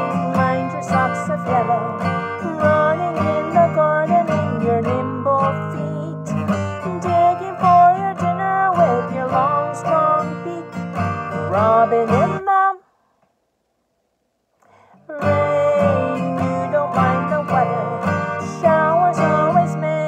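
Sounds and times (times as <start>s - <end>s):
acoustic guitar strumming: 0.0s - 12.8s, 15.1s - 20.0s
woman singing: 0.0s - 12.9s, 15.0s - 20.0s.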